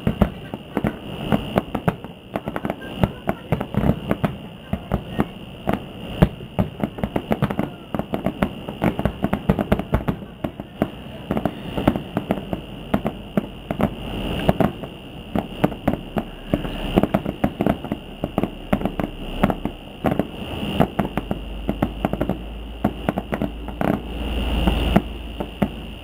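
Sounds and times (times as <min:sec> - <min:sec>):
distant fireworks popping and crackling: 0:00.0 - 0:26.0
steady high-pitched hum: 0:00.0 - 0:26.0
low rumble: 0:03.1 - 0:26.0.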